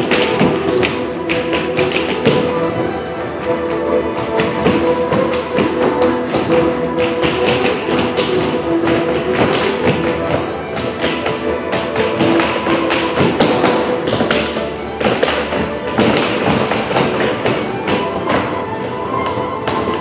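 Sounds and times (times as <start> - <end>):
dance shoes tapping on hard floor: 0.0 - 20.0
music with steady melody: 0.0 - 20.0.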